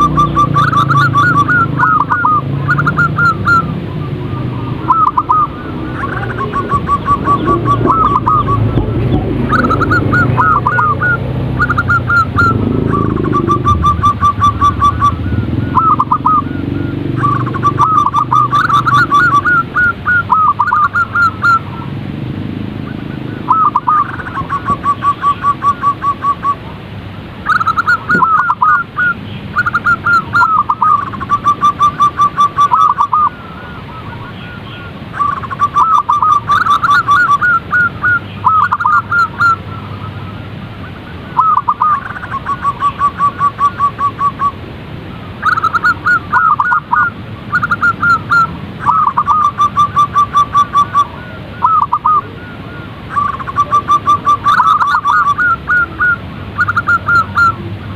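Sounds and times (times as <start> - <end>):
dove cooing: 0.0 - 26.8, 27.4 - 44.6, 45.2 - 57.9
low steady hum: 0.0 - 57.9.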